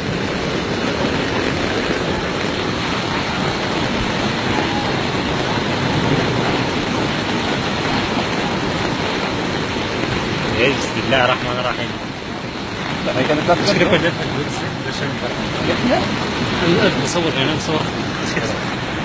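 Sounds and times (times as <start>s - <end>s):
torrent of water rushing: 0.0s - 19.0s.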